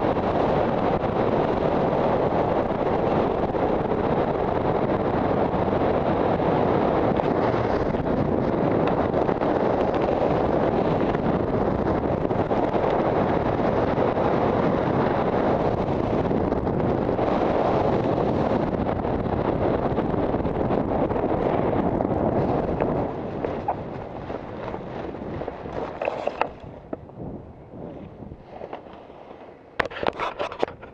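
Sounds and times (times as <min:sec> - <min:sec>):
wind rushing over microphone: 0:00.0 - 0:30.9.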